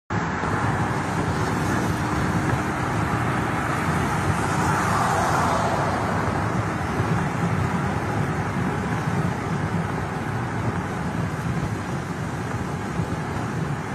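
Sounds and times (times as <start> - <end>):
car driving at speed: 0.1 - 13.9.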